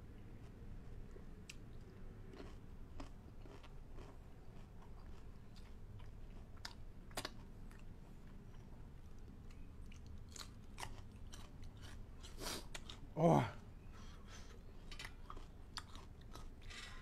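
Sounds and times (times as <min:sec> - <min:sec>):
person chewing food: 0:00.2 - 0:13.1, 0:13.8 - 0:17.0.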